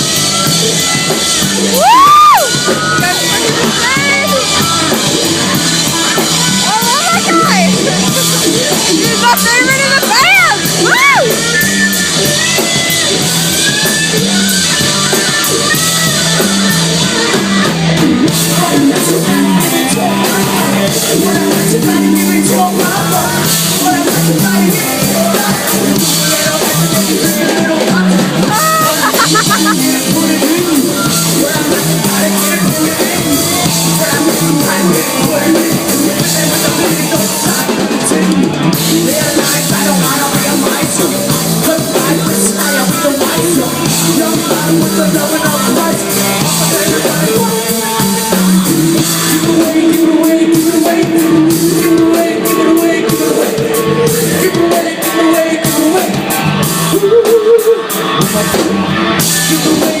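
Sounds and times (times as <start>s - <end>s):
drum kit: 0.0s - 60.0s
electric guitar: 0.0s - 60.0s
person singing: 0.0s - 60.0s.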